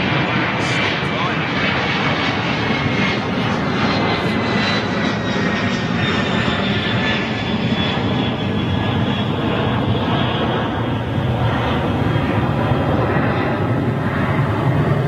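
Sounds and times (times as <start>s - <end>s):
high engine whine: 0.0s - 15.0s
jet engines roaring: 0.0s - 15.0s.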